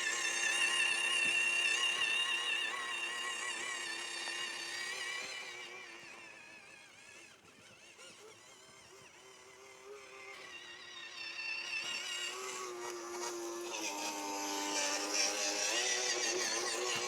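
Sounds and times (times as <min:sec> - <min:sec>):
toy truck electric motor whining: 0:00.0 - 0:17.0.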